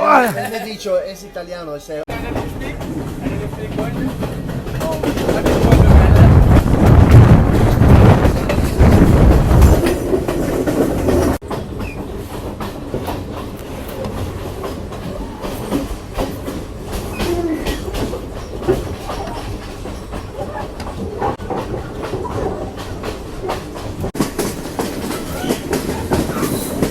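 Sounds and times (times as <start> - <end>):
train rumble: 2.1 - 26.9
train wheels clacking on rails: 2.1 - 26.9.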